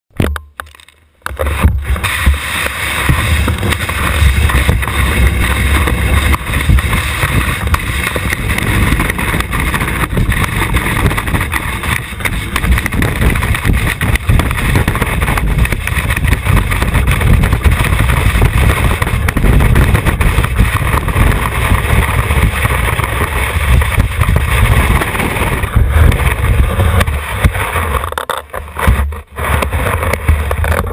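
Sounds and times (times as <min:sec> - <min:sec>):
ski rushing over snow: 0:01.3 - 0:30.9.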